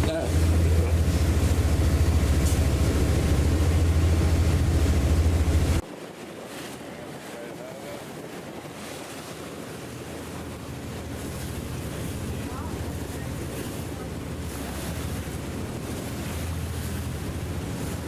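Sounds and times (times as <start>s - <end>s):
boat engine droning: 0.0s - 5.9s, 8.1s - 18.0s
wind buffeting microphone: 0.0s - 18.0s.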